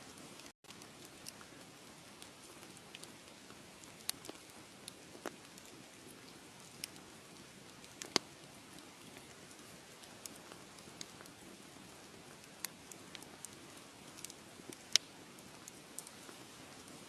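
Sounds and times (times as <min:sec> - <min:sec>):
fire crackling and popping: 0:00.1 - 0:17.0.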